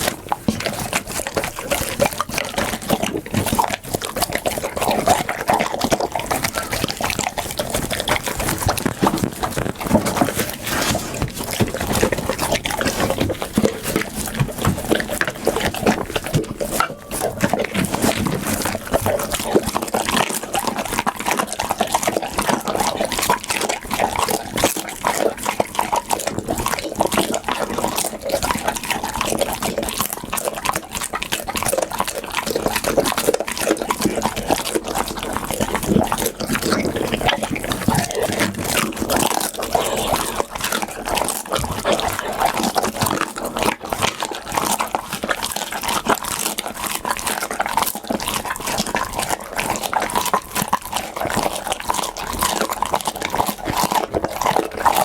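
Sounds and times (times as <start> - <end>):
dog chewing and smacking: 0.0 - 55.0.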